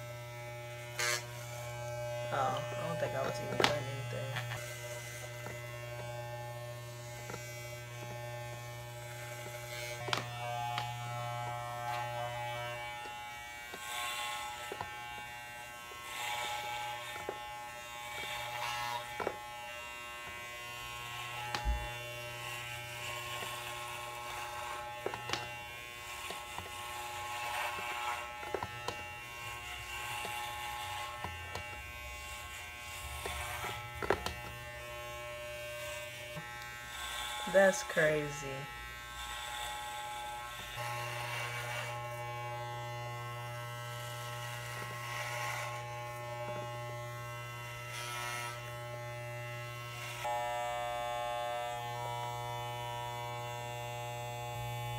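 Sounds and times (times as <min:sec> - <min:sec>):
electric hair clippers buzzing: 0:00.0 - 0:54.9.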